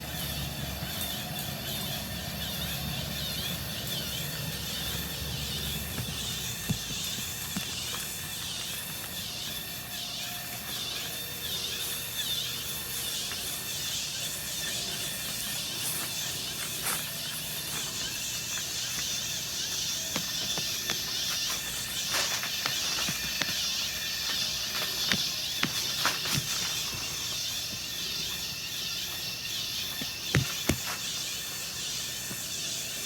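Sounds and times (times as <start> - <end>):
low motor hum: 0.0 - 33.0.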